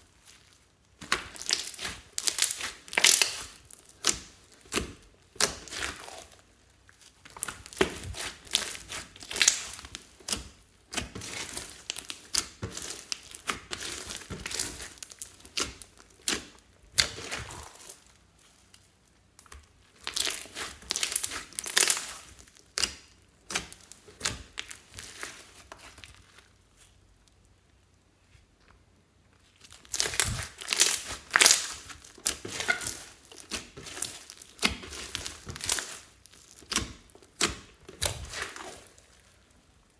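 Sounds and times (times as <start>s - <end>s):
slime crackling and squelching: 0.0s - 28.1s, 29.0s - 39.9s.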